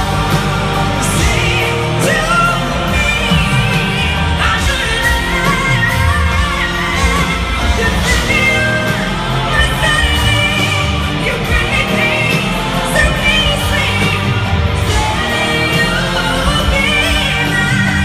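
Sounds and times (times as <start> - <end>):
band playing pop ballad: 0.0 - 18.0
woman singing: 0.9 - 18.0.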